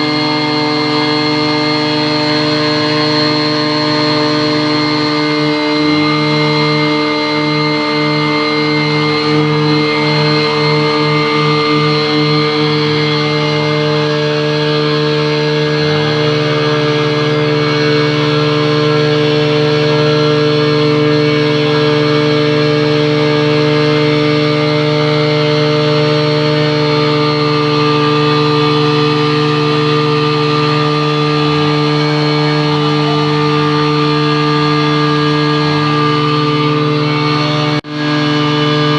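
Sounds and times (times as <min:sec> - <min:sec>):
fire pump engine running: 0:00.0 - 0:38.9.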